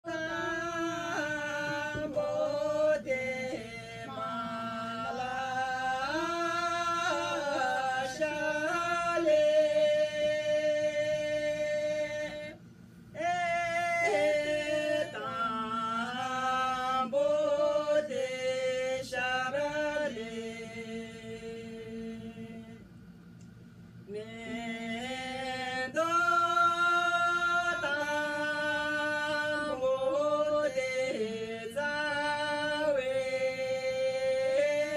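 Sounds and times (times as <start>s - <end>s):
women singing unaccompanied: 0.0s - 12.6s, 13.2s - 22.9s, 24.1s - 34.9s.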